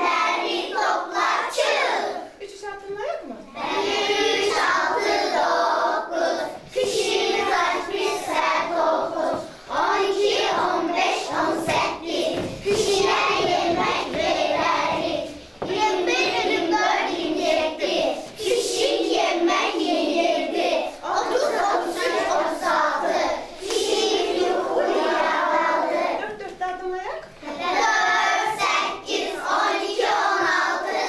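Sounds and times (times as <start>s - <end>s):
children singing in chorus: 0.0s - 2.3s, 3.6s - 26.2s, 27.4s - 31.0s.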